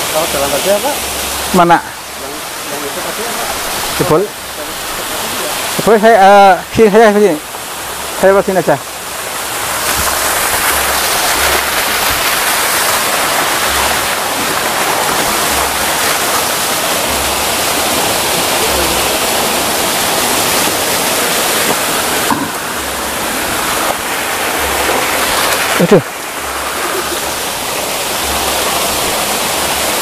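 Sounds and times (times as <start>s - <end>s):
small waterfall over rocks: 0.0s - 30.0s.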